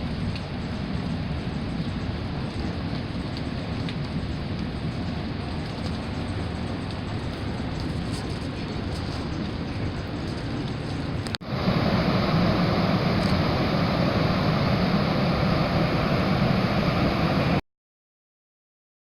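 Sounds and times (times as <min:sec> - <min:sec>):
waterfall roaring: 0:00.0 - 0:17.6.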